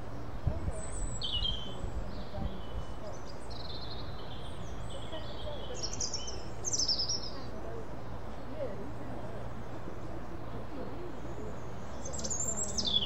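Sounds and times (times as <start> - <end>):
small birds singing: 0.0 - 13.0.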